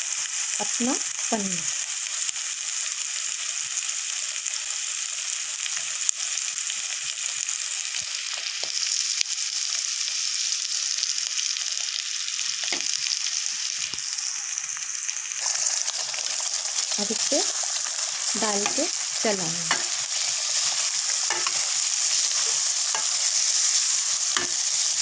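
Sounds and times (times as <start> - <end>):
paste sizzling in oil: 0.0 - 25.0.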